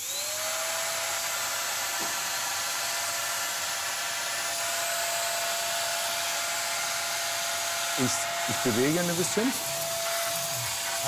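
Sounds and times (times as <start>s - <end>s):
vacuum cleaner motor whine: 0.0s - 11.0s.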